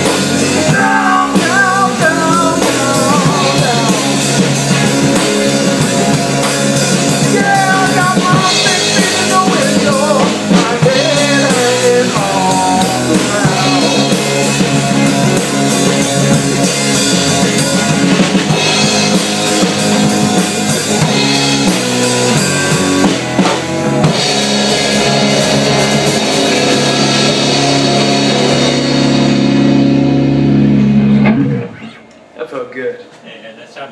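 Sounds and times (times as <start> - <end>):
drum kit: 0.0 - 32.4
electric guitar: 0.0 - 32.4.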